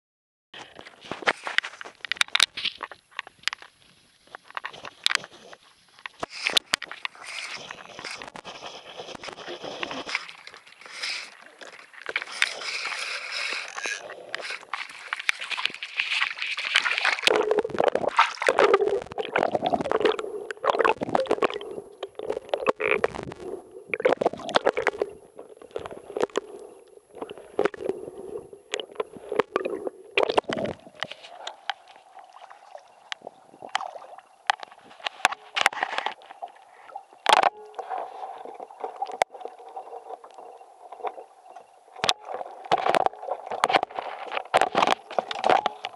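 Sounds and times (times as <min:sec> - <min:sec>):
water sloshing and gurgling: 0:00.6 - 0:45.9.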